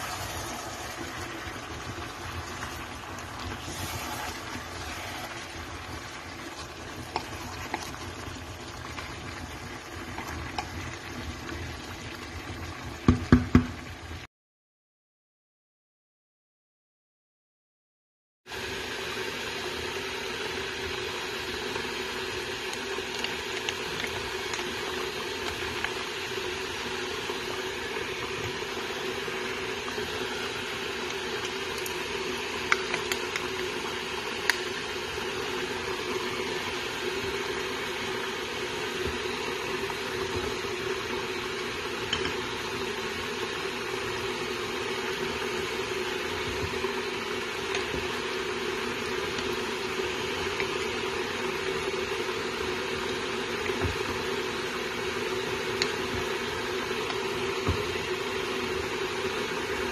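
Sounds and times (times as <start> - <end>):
pot simmering with bubbling hiss: 0.0 - 14.3, 18.5 - 59.9.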